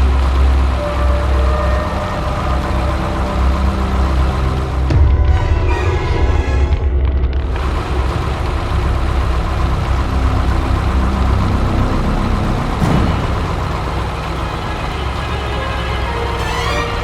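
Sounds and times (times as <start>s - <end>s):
heavy vehicle engine rumble: 0.0s - 17.0s
rushing noise: 0.0s - 17.0s.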